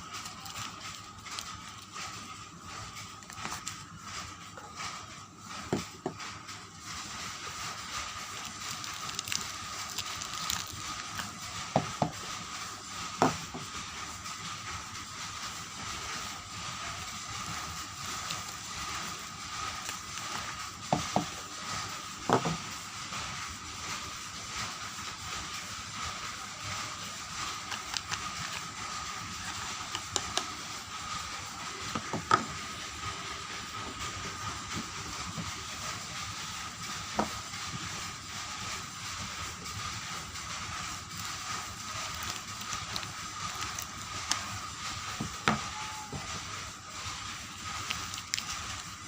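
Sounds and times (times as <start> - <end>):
steady hiss: 0.0 - 49.0.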